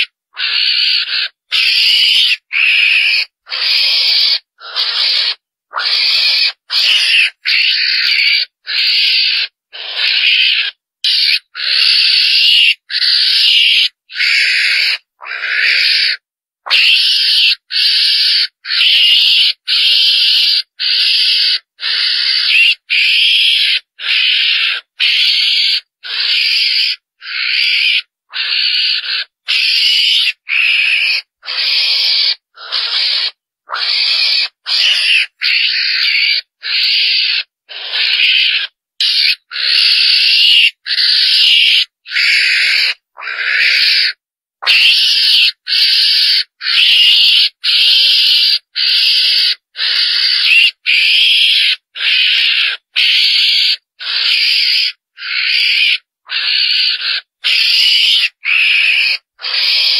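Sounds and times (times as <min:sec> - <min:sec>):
mongoose harsh calls: 0:00.0 - 0:59.9.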